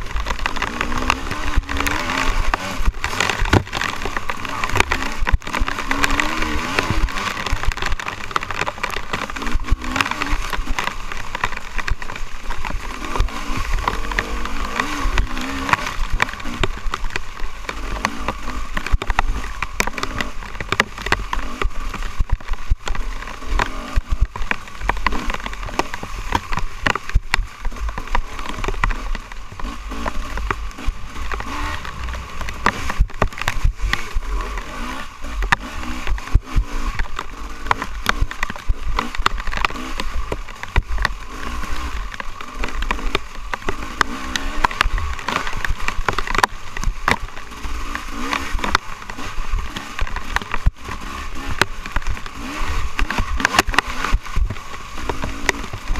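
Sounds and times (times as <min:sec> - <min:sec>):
dirt bike engine revving: 0:00.0 - 0:55.9
knocks and clatter: 0:00.0 - 0:55.9
wind rumbling on microphone: 0:00.0 - 0:55.9.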